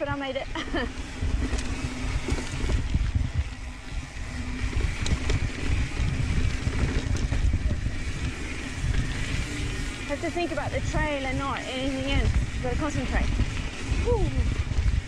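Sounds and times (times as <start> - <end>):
bike clicks and rattles: 0.0 - 15.0
tyres rolling over dirt: 0.0 - 15.0
wind rumbling on microphone: 0.0 - 15.0.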